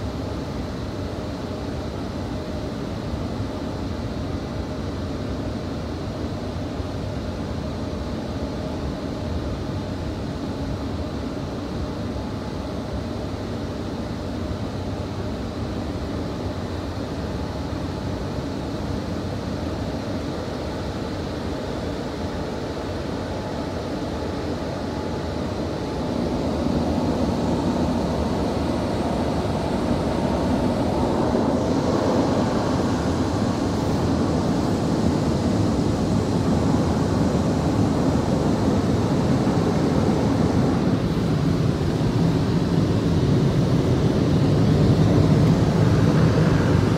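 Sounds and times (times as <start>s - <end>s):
car wash machinery and water rushing: 0.0s - 46.9s.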